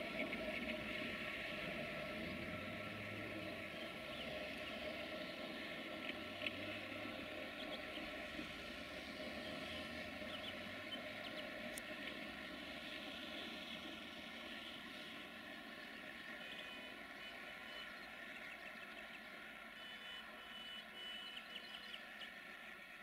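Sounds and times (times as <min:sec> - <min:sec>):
distant electric locomotive hum: 0:00.0 - 0:23.0.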